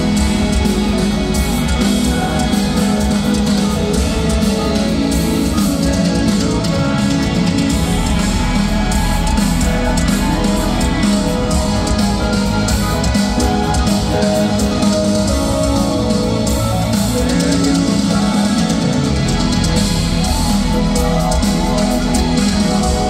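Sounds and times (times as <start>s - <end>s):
drums: 0.0s - 23.0s
electric guitar: 0.0s - 23.0s.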